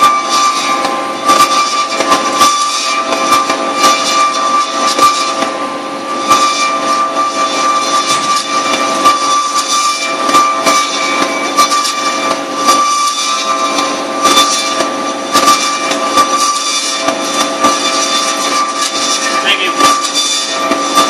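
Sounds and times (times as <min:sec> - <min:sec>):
band saw whining: 0:00.0 - 0:21.0.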